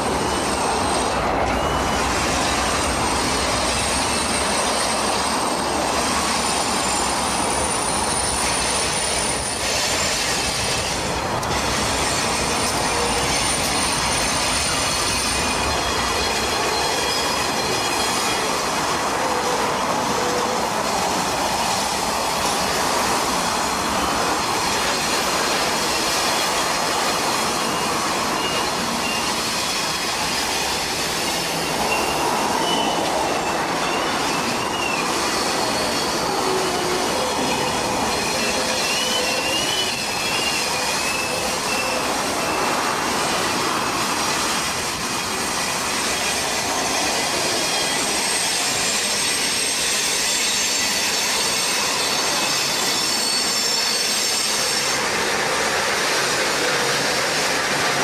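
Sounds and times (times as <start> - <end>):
train rolling roar: 0.0 - 58.0
wheel flange squeal: 0.1 - 20.6, 24.0 - 43.3, 44.5 - 55.2.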